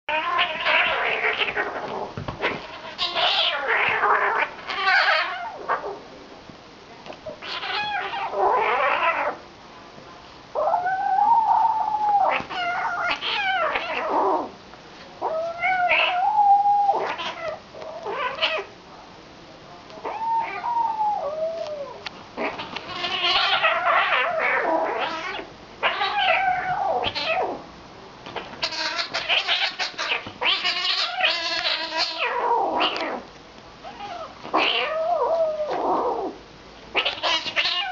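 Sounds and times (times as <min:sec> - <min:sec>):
kitten yowling: 0:00.1 - 0:06.0, 0:07.4 - 0:09.4, 0:10.6 - 0:14.5, 0:15.2 - 0:18.7, 0:20.0 - 0:27.6, 0:28.6 - 0:33.2, 0:33.8 - 0:36.4, 0:37.0 - 0:37.9.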